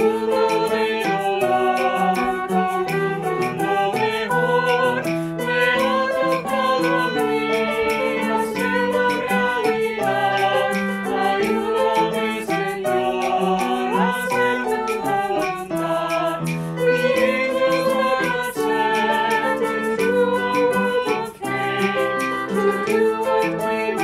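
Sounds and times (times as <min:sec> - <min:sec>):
instrumental accompaniment: 0:00.0 - 0:24.0
voices singing a hymn: 0:00.0 - 0:24.0.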